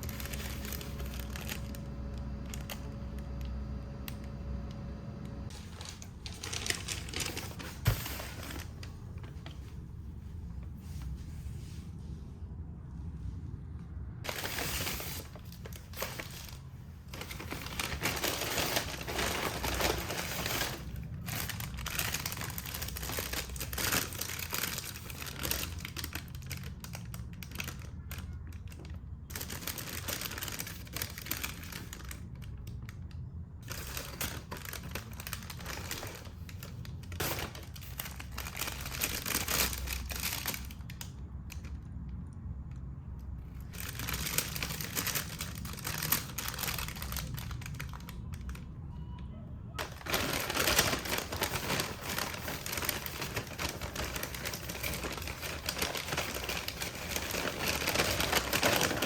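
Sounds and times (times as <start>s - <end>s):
packaging crinkling: 0.0s - 4.3s, 5.4s - 9.8s, 14.3s - 33.0s, 33.6s - 41.7s, 43.6s - 48.6s, 49.8s - 59.0s.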